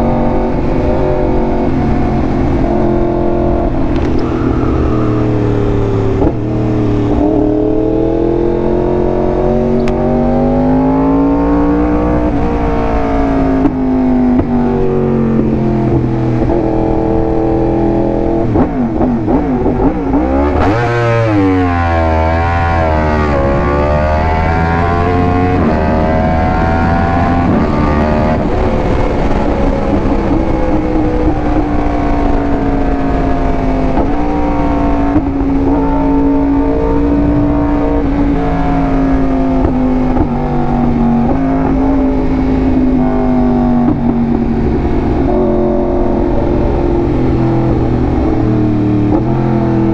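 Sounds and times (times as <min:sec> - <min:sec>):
wind rushing: 0:00.0 - 0:20.6, 0:22.9 - 0:49.9
motorcycle engine accelerating: 0:00.0 - 0:49.9.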